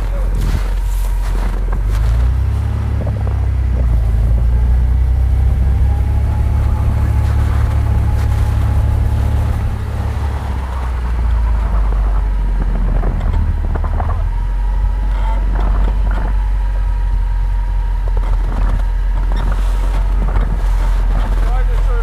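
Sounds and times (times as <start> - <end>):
vehicle engine low rumble: 0.0 - 22.0.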